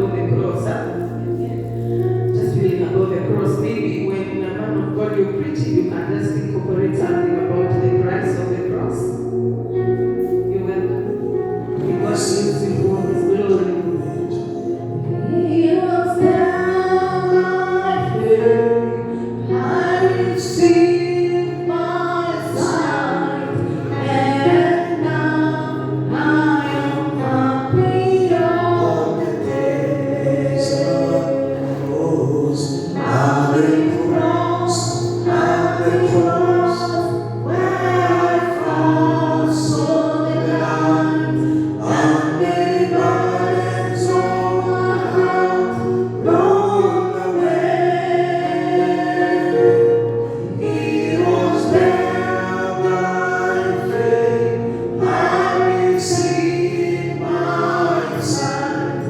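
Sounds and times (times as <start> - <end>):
instrumental accompaniment: 0.0 - 59.0
choir singing: 8.3 - 59.0.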